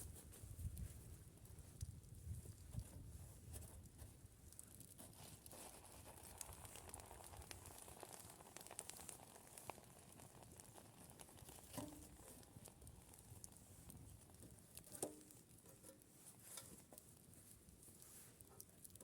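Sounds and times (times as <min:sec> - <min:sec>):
faint crackles and clicks: 0:00.0 - 0:19.0.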